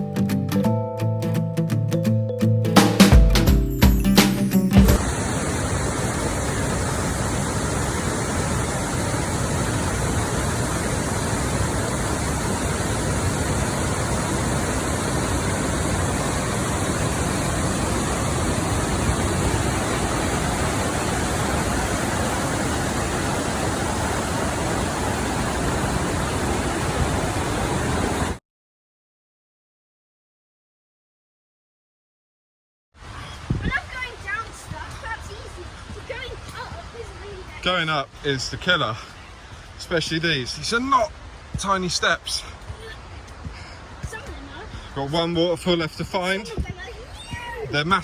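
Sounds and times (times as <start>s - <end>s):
waterfall rushing: 4.3s - 28.4s, 33.0s - 48.0s.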